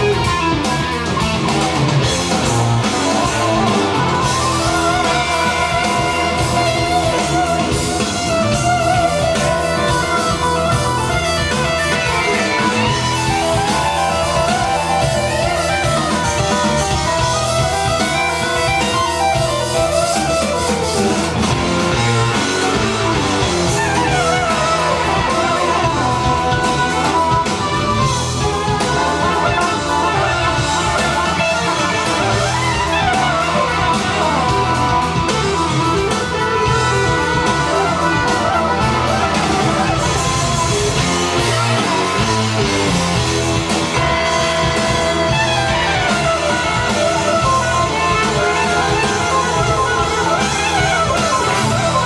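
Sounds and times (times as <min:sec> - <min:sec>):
rock music with guitars and drums: 0:00.0 - 0:52.0.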